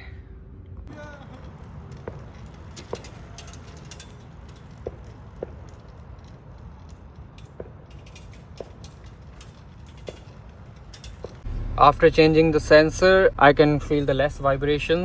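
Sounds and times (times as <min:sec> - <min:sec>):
car engine idling: 0:00.9 - 0:15.0.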